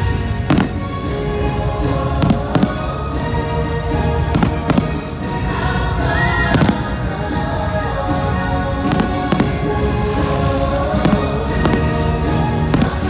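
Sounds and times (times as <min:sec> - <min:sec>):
orchestral music: 0:00.0 - 0:13.0
fireworks bangs: 0:00.1 - 0:13.0.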